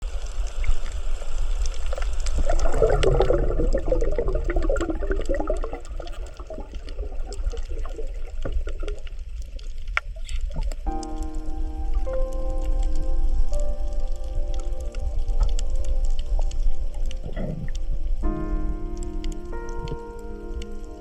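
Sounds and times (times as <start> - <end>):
bubbling gurgling water: 0.0 - 21.0
low underwater rumble: 0.0 - 21.0
underwater crackling clicks: 0.2 - 21.0.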